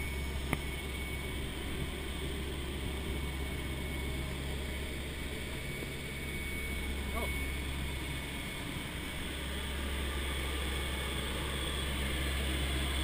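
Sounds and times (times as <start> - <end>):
thin steady high tone: 0.0 - 13.0
turboprop engines droning: 0.0 - 13.0.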